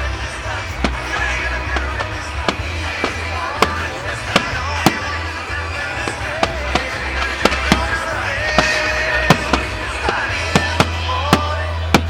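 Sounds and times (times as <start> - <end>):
fireworks exploding: 0.0 - 12.0
music playing: 0.0 - 12.0.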